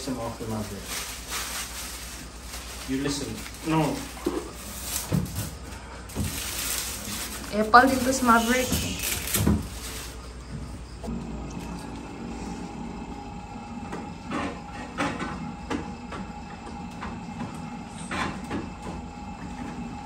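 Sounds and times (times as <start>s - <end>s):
ice dispenser motor hum: 0.0s - 20.0s.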